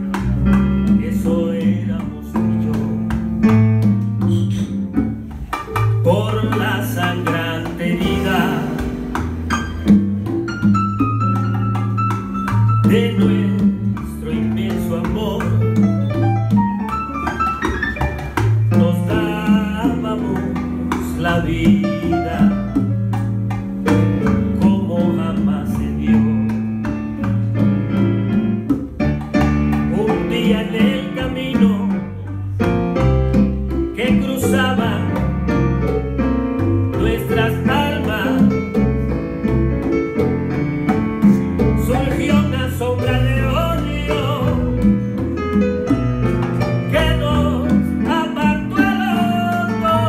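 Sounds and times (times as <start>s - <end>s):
bolero on keyboard and guitar: 0.0s - 50.0s.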